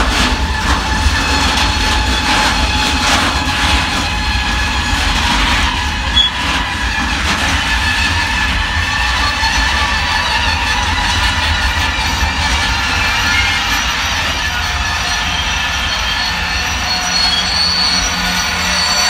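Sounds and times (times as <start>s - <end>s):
train wheels clacking: 0.0s - 19.0s.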